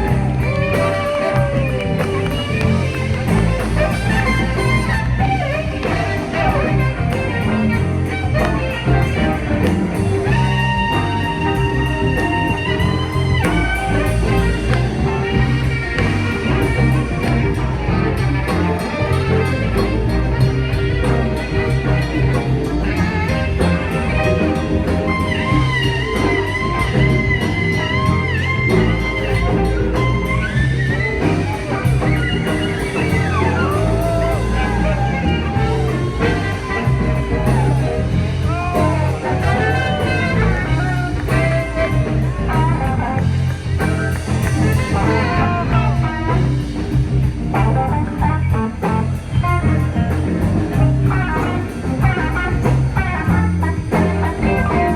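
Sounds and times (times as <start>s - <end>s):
band music with guitar and drums: 0.0s - 54.9s.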